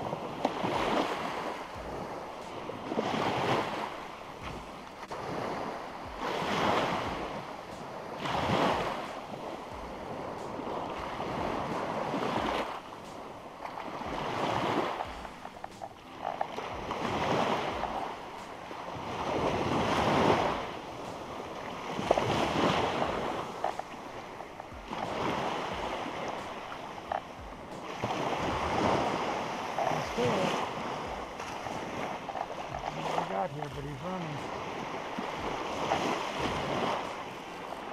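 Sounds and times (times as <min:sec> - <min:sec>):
sea waves washing: 0:00.0 - 0:37.9.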